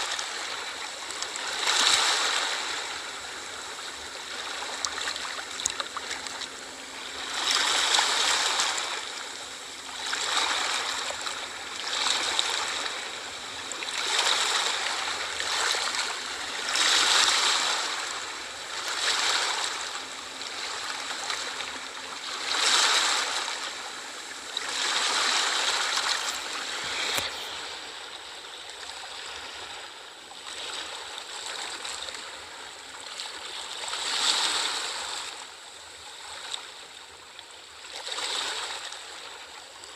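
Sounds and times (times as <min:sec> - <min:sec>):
small waves washing on shore: 0:00.0 - 0:37.2, 0:37.8 - 0:39.9.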